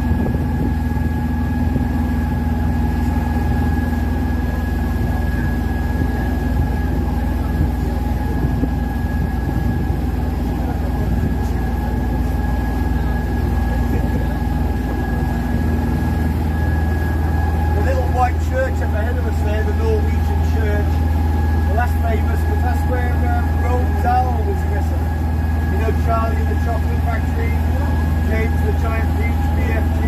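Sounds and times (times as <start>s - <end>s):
boat engine drone: 0.0s - 30.0s
thin steady whine: 0.0s - 30.0s.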